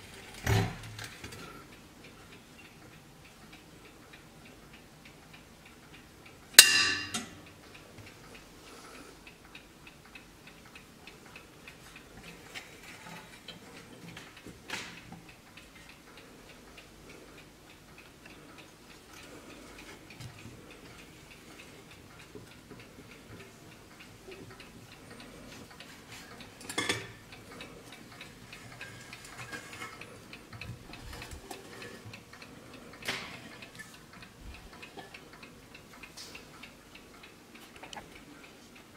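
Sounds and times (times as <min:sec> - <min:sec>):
clock ticking: 0:00.9 - 0:38.9.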